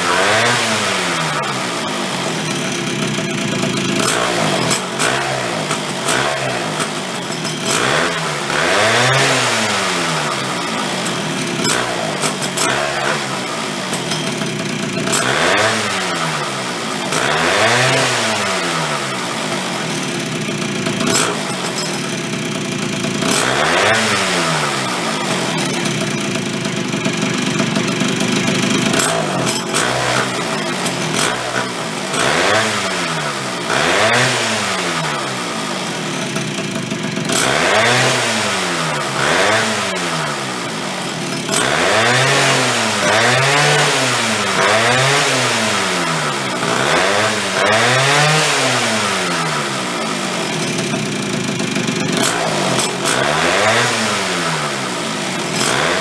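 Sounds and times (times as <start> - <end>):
two-stroke snowmobile engine revving: 0.0 - 56.0.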